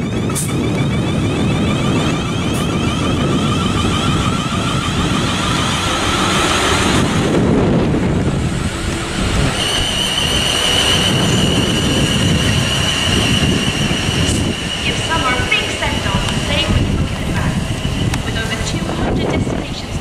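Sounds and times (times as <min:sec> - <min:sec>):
high whine of traction equipment: 0:00.0 - 0:20.0
train wheels rumbling on track: 0:00.0 - 0:20.0.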